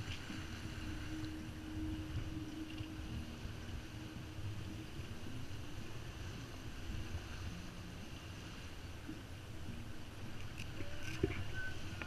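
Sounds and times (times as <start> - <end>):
water splashing along hull: 0.0 - 12.0
wind noise on microphone: 0.0 - 12.0.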